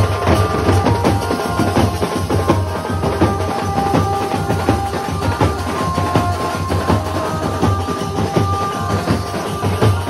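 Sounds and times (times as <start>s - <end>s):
marching bass drums beating: 0.0s - 10.0s.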